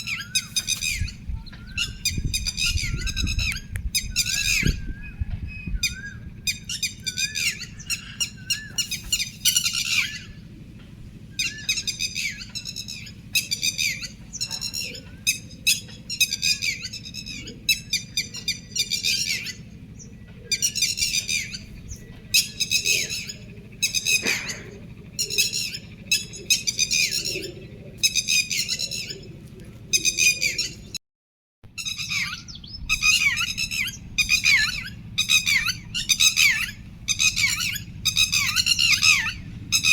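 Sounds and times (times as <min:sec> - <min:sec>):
small birds chirping: 0:00.0 - 0:31.0, 0:31.8 - 0:39.9
steady low hum: 0:00.0 - 0:31.0, 0:31.7 - 0:39.9.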